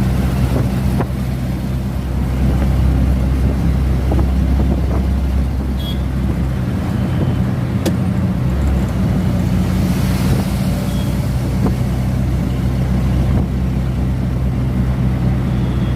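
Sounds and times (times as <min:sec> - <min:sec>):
road noise: 0:00.0 - 0:15.9
vehicle engine drone: 0:00.0 - 0:15.9.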